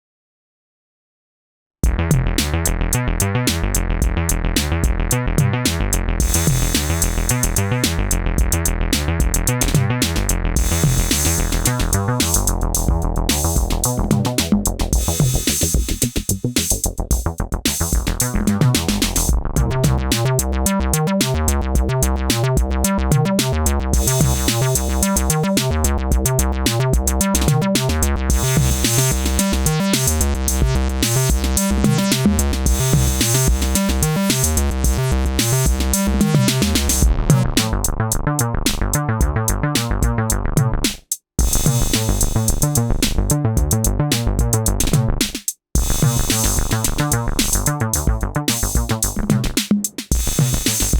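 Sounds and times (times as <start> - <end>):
drum machine beat: 1.8 - 38.0, 38.7 - 50.9
synth bassline: 1.8 - 45.2, 45.8 - 50.9.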